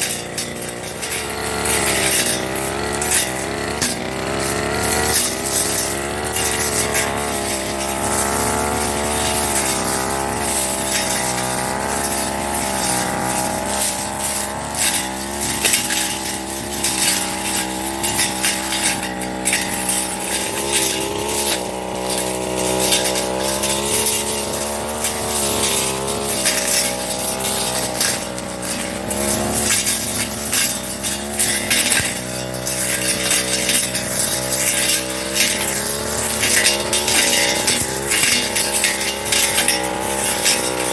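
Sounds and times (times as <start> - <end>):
blade striking grass: 0.0 - 40.9
brush cutter engine running: 0.0 - 40.9.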